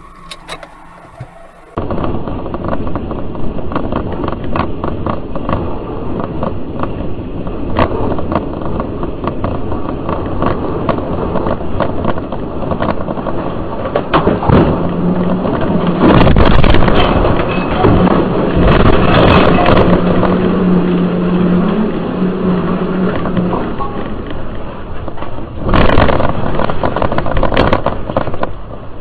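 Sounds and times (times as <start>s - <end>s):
road and tyre noise: 0.0s - 29.0s
wreckage and spray on road: 0.0s - 29.0s.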